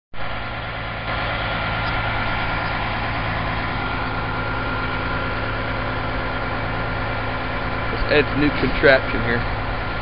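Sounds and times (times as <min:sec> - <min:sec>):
steady mechanical drone: 0:00.2 - 0:10.0.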